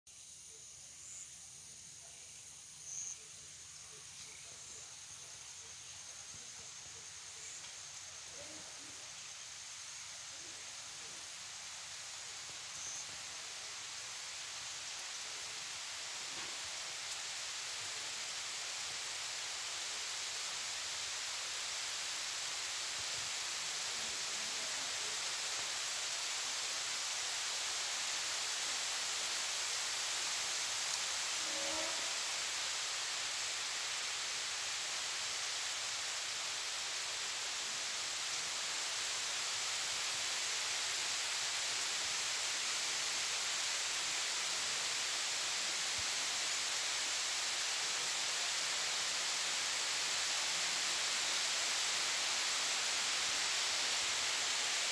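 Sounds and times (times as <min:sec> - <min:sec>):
steady rain falling: 0:00.1 - 0:54.9.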